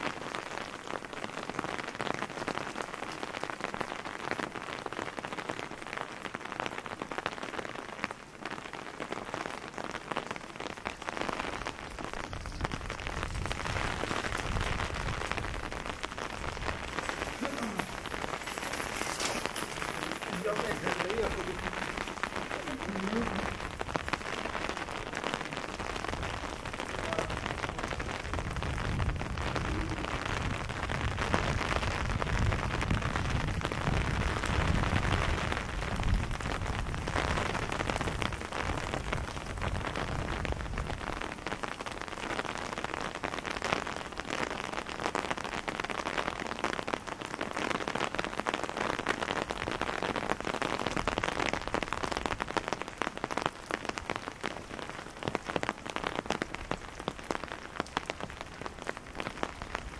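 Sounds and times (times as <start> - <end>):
rain on cobblestones: 0.0 - 59.9.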